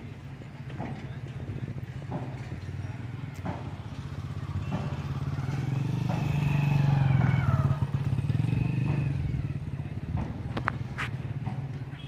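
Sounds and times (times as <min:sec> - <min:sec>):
engine running with fast throb: 0:01.8 - 0:11.8.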